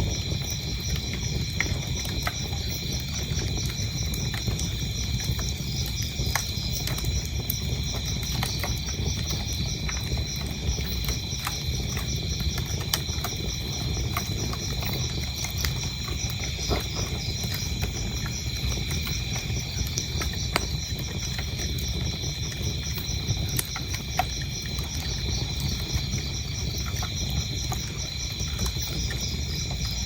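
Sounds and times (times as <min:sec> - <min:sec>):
crickets chirping: 0:00.0 - 0:30.0
wood fire crackling and popping: 0:00.0 - 0:30.0.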